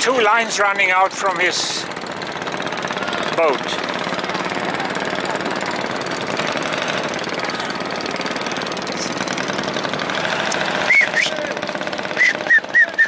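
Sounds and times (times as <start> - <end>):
engine running with knocking beat: 0.0 - 13.0.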